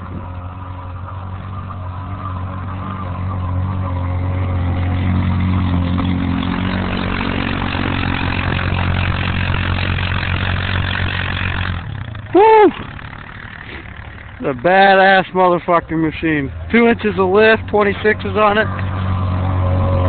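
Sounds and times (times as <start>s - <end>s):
engine running under load: 0.0s - 20.0s.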